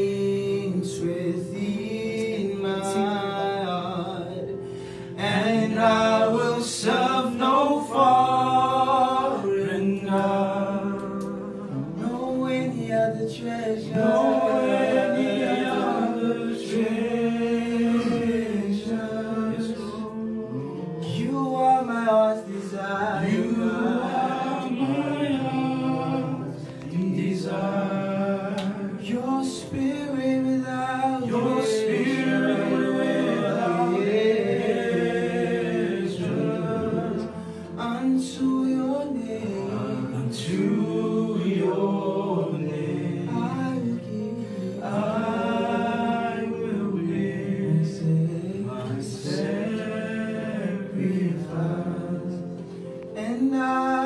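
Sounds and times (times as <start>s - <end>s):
men singing gospel song: 0.0s - 54.0s.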